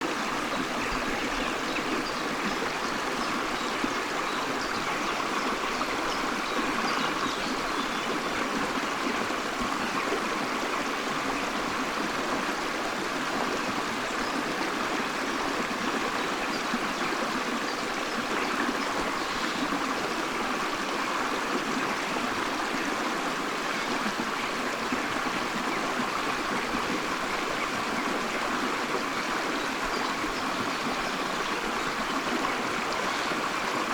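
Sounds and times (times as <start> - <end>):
stream flowing over stones: 0.0 - 33.9.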